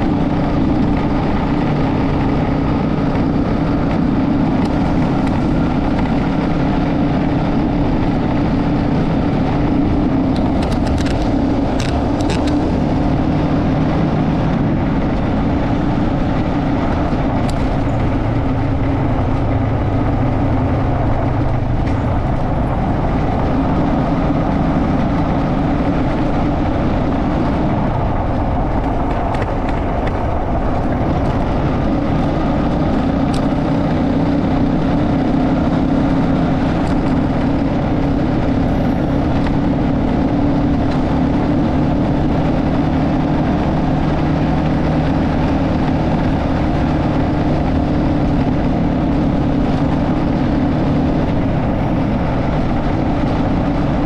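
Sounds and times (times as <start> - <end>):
motorcycle engine and road noise: 0.0 - 54.0.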